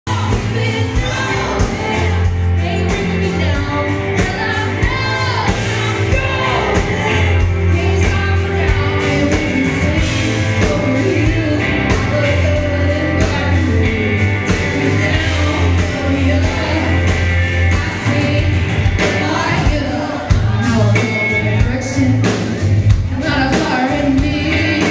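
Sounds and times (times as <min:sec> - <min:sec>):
live rock band playing: 0:00.0 - 0:24.9
woman singing into a microphone: 0:00.1 - 0:24.9.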